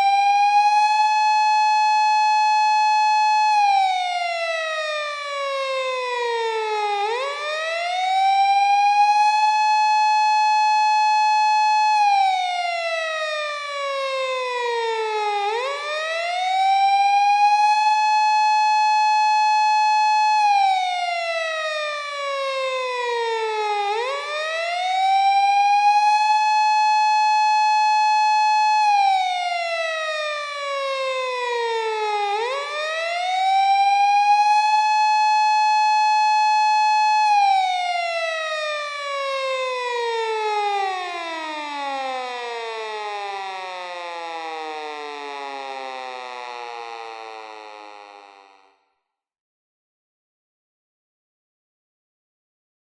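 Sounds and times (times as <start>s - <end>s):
police car siren wailing: 0.0s - 48.8s.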